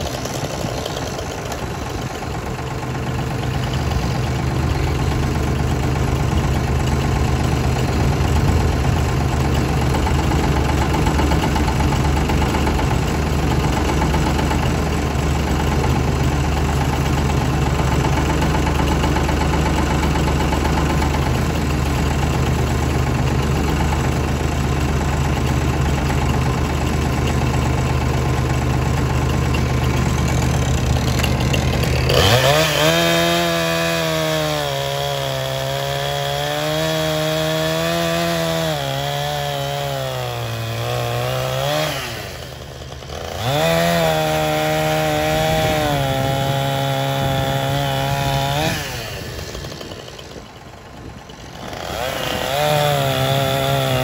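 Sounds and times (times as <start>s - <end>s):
chainsaw cutting log: 0.0s - 54.0s
tractor diesel engine running: 0.0s - 54.0s.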